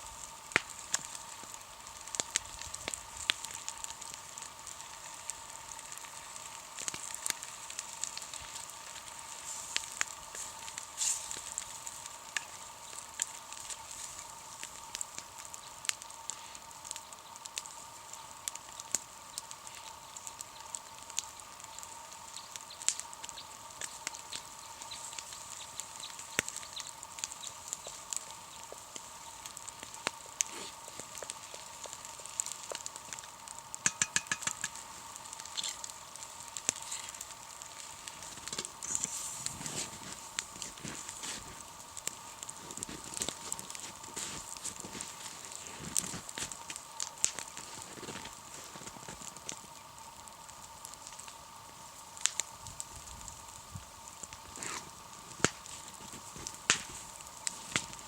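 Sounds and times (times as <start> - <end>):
campfire crackling: 0.0 - 58.0
fire popping: 0.0 - 58.0
steady hiss: 0.0 - 58.0.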